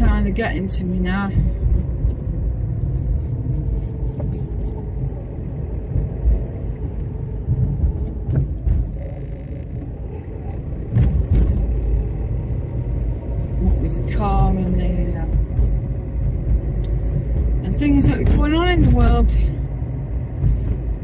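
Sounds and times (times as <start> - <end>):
car engine and road rumble: 0.0 - 21.0
heavy low bumps: 0.0 - 21.0.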